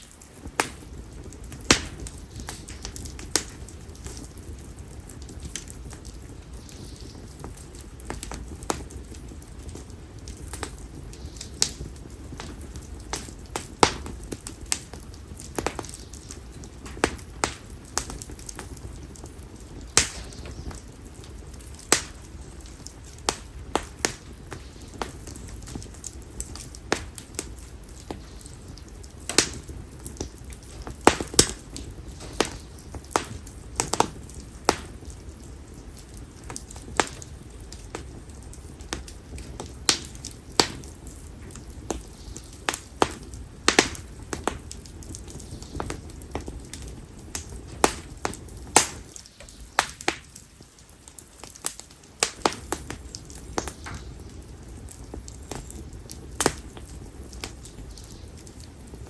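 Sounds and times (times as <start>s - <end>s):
bonfire crackling and popping: 0.0s - 59.0s
low rush of flame: 0.0s - 59.0s.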